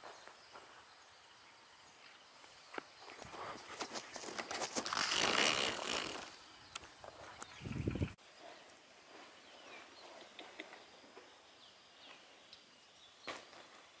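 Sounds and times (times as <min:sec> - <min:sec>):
distant bird chirps: 0:00.0 - 0:14.0.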